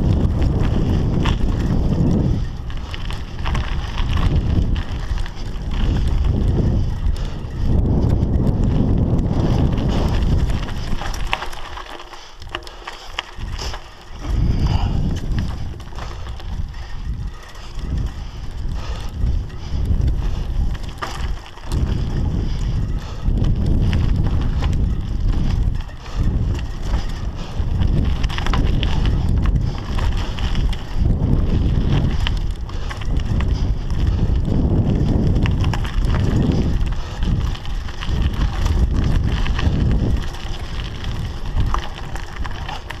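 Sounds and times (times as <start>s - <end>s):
bike clicks and rattles: 0.0s - 43.0s
bike tyre noise on dirt: 0.0s - 43.0s
wind buffeting microphone: 0.0s - 43.0s.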